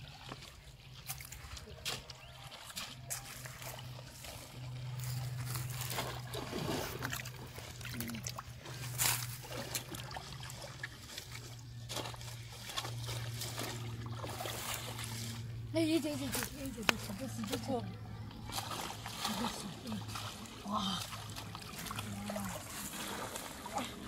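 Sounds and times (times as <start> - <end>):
river water sloshing and splashing: 0.0 - 24.0
steady low hum: 0.0 - 24.0
sharp splashes: 1.0 - 17.7, 18.4 - 24.0.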